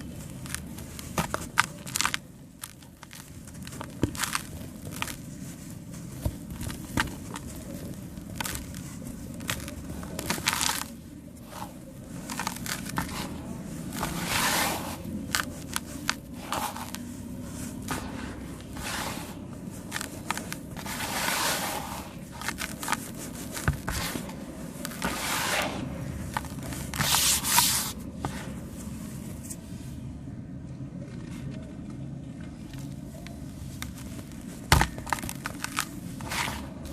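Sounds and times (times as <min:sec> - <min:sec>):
sand cement crushing and crumbling: 0:00.0 - 0:29.7, 0:32.6 - 0:36.9.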